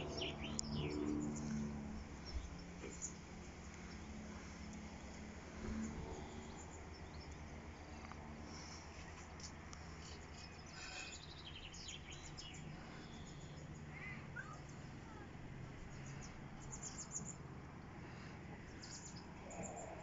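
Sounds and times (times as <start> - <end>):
faint birds chirping: 0.0 - 20.0
low steady hum: 0.0 - 20.0.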